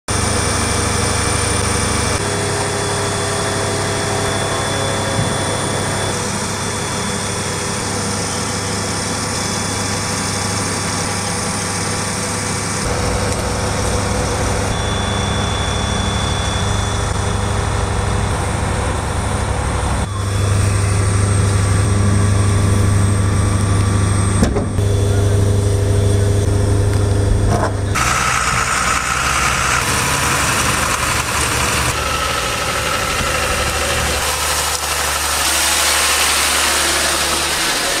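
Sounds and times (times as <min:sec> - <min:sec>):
diesel truck engine running: 0:00.1 - 0:38.0.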